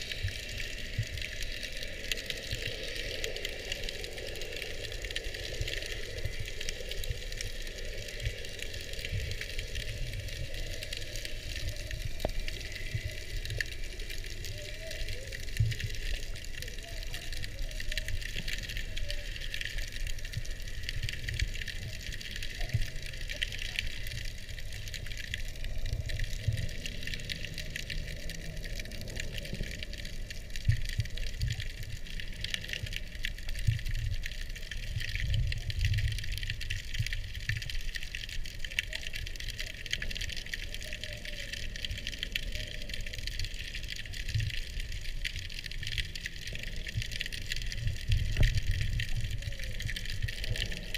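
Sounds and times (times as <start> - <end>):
crackling hiss of fine clicks: 0.0 - 50.9
underwater rumbling of moving water: 0.0 - 50.9.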